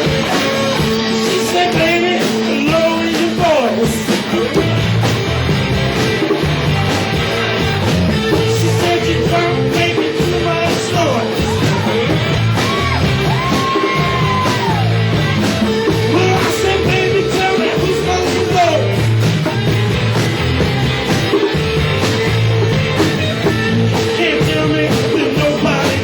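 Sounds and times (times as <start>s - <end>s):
person singing: 0.0s - 5.0s, 6.2s - 20.1s, 21.2s - 26.0s
rock band playing live: 0.0s - 26.0s.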